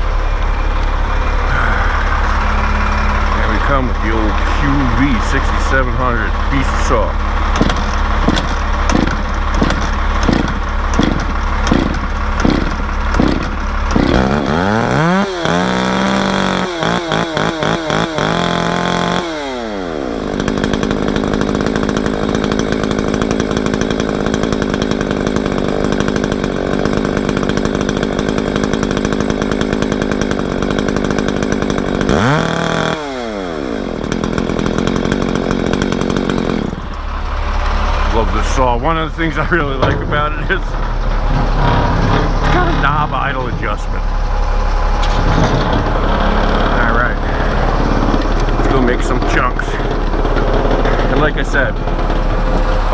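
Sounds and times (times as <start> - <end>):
chainsaw idling and revving: 0.0 - 52.9.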